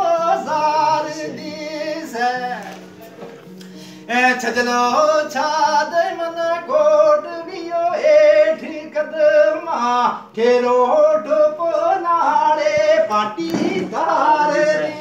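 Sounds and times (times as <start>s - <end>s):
man singing high solo: 0.0s - 3.0s, 4.1s - 15.0s.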